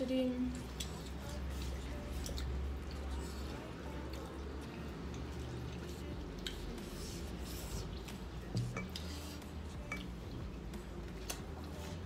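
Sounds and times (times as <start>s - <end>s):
low steady hum: 0.0s - 12.0s
eating noises: 0.4s - 12.0s.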